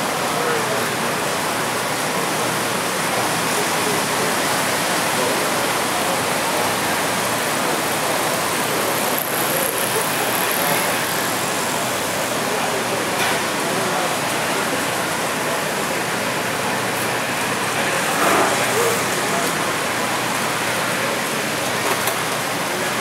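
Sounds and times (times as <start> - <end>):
model train rolling on track: 0.3 - 23.0.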